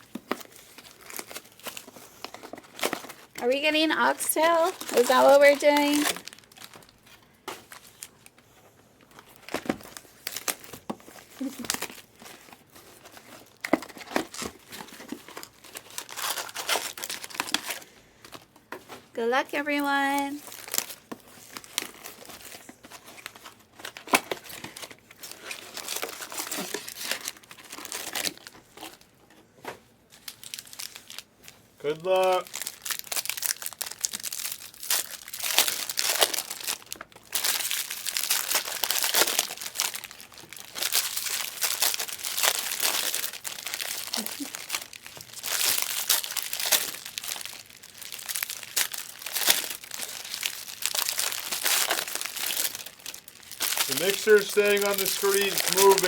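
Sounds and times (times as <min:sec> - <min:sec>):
foil wrappers tearing and crinkling: 0:00.0 - 0:19.1, 0:19.7 - 0:29.2, 0:30.1 - 0:56.0.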